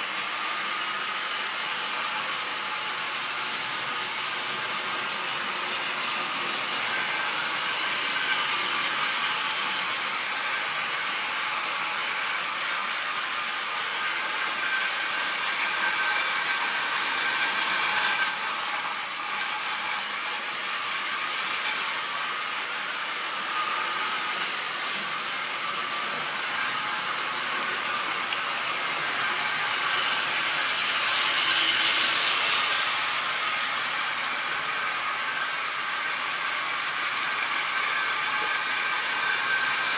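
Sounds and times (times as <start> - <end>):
model trains whirring on rails: 0.0 - 39.9.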